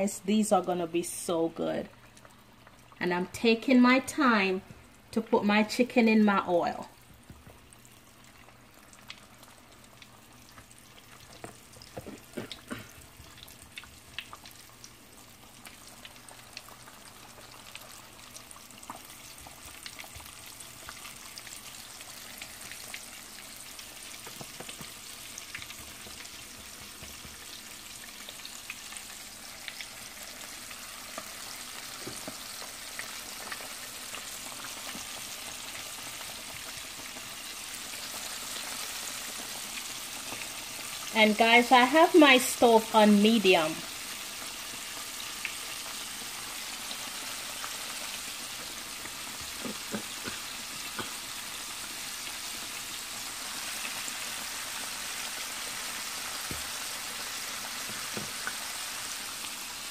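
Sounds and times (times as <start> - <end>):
chicken frying in hot oil: 0.0 - 59.9.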